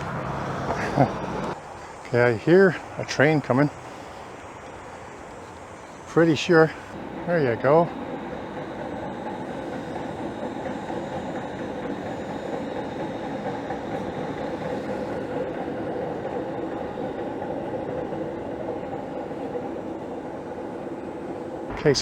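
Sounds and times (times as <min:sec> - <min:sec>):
light-rail train passing: 0:00.0 - 0:22.0.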